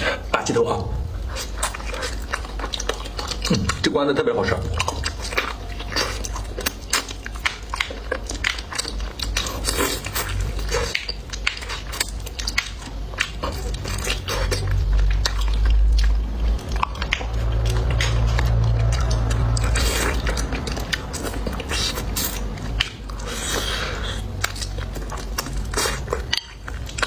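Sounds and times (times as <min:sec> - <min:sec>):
low rumble: 0:00.0 - 0:03.8, 0:04.4 - 0:27.0
close-up chewing and crunching: 0:00.0 - 0:27.0.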